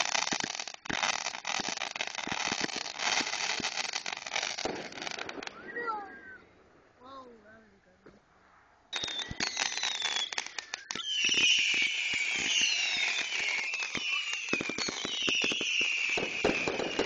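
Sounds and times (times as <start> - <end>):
fireworks whistling: 0.0 - 6.6, 8.9 - 17.0
fireworks cracking and popping: 0.0 - 6.9, 8.9 - 17.0.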